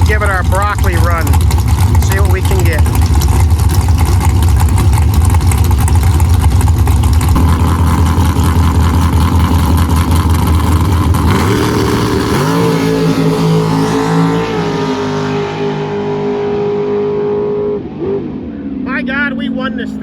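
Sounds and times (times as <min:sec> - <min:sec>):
race car engine roaring: 0:00.0 - 0:20.0.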